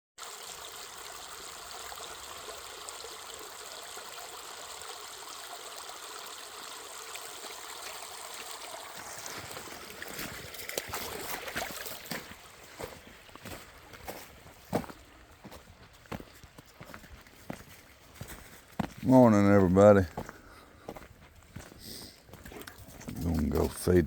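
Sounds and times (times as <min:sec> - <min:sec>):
small stream trickling: 0:00.2 - 0:24.0.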